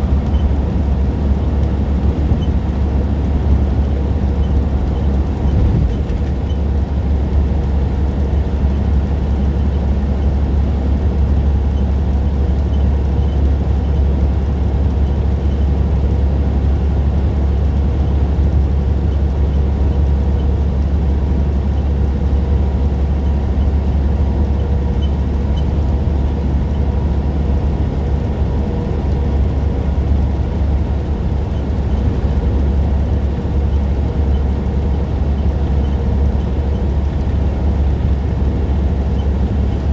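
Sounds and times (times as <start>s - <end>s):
road noise: 0.0s - 12.5s, 20.1s - 39.9s
diesel truck engine drone: 0.0s - 39.9s.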